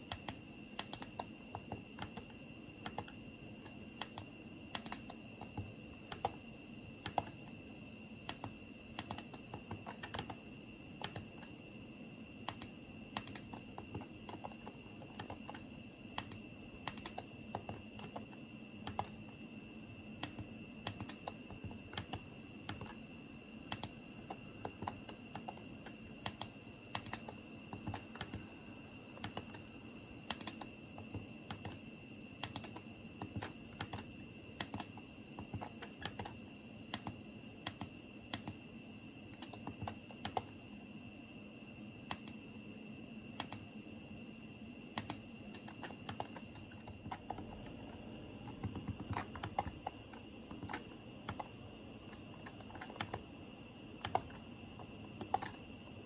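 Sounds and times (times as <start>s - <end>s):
faint high whine: 0.0s - 56.0s.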